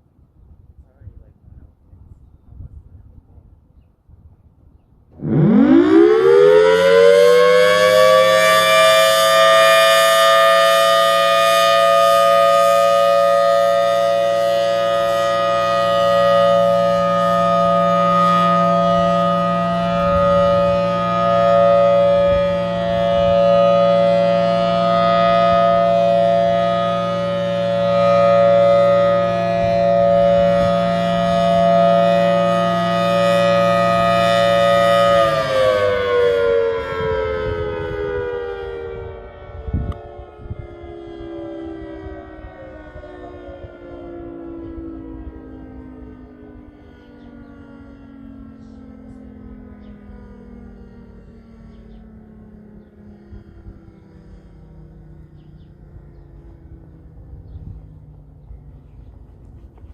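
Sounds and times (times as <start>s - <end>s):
outdoor warning siren wailing: 5.0s - 59.9s.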